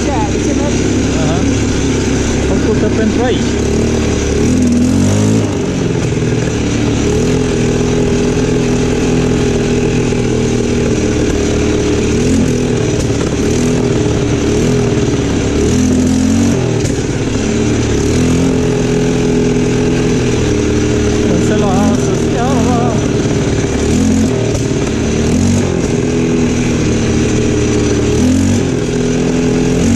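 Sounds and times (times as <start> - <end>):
atv engine running: 0.0 - 29.9.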